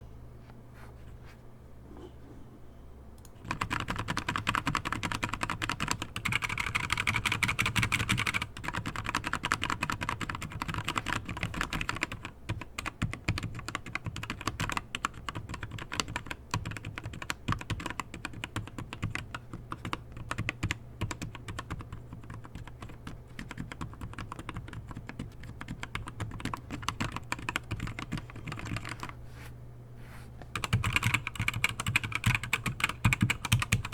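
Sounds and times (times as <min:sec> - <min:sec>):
faint low hum: 0:00.0 - 0:33.9
typing on mechanical keyboard: 0:03.4 - 0:29.1, 0:30.5 - 0:33.9.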